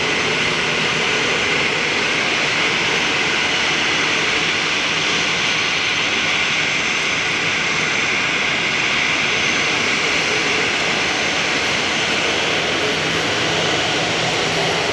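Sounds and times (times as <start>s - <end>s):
jet engines hissing: 0.0s - 14.9s.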